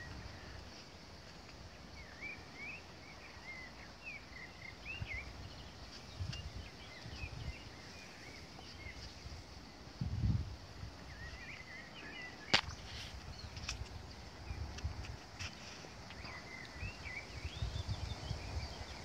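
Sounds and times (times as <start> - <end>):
songbirds chirping and twittering: 0.0 - 19.0.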